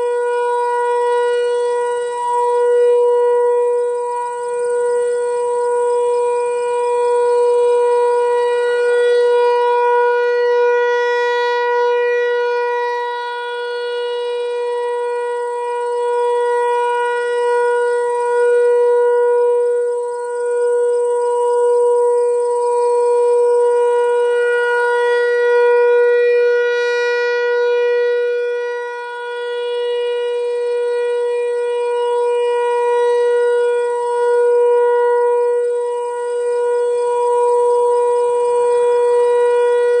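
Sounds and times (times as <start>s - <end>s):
rotating warning siren: 0.0s - 40.0s.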